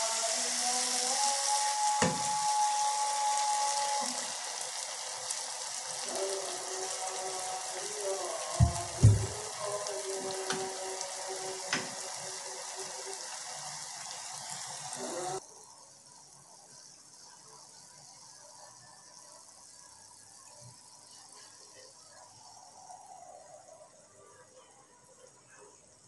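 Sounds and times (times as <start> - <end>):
eggs sizzling in a pan: 0.0 - 26.0.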